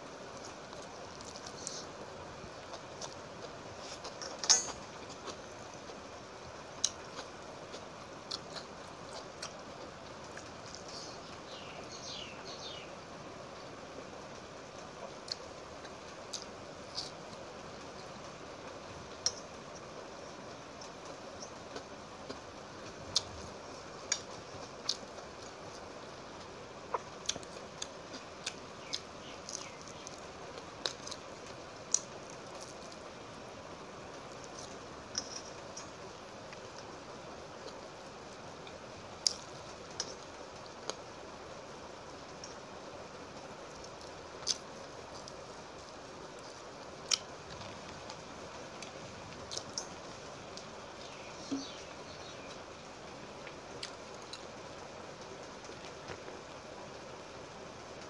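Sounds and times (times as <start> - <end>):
steady low hiss: 0.0 - 58.0.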